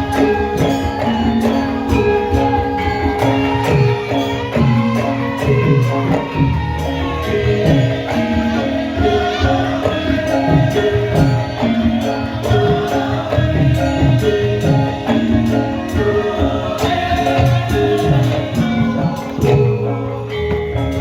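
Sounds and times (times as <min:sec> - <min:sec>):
drum strokes: 0:00.0 - 0:21.0
gamelan music: 0:00.0 - 0:21.0
voices singing: 0:00.0 - 0:21.0.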